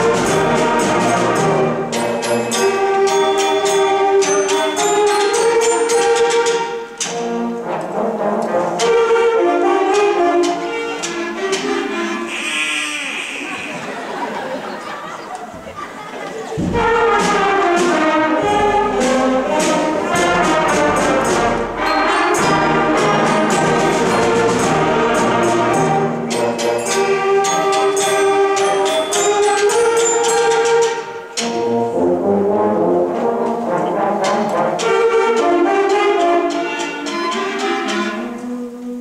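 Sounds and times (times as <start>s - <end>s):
brass: 0.0s - 14.4s, 16.6s - 39.0s
percussion strikes: 0.0s - 14.6s, 16.6s - 38.9s
concert band playing: 0.0s - 39.0s.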